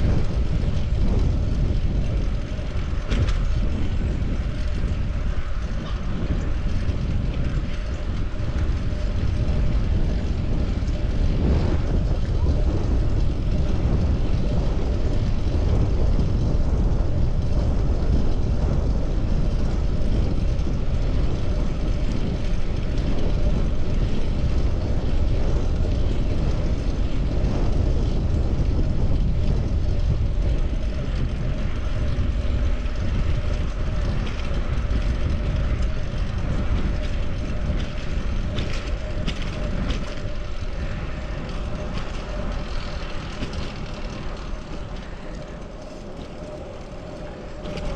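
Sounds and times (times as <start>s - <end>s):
bicycle road noise: 0.0s - 47.9s
wind rumble: 0.0s - 47.9s.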